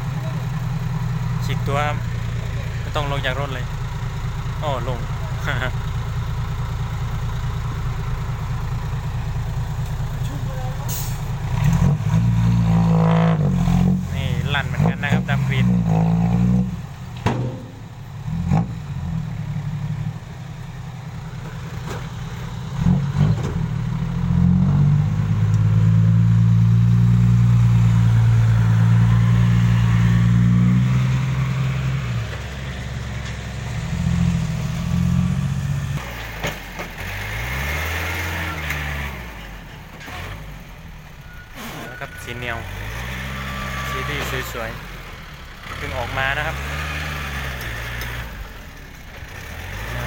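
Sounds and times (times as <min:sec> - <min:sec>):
diesel truck engine revving: 0:00.0 - 0:50.0.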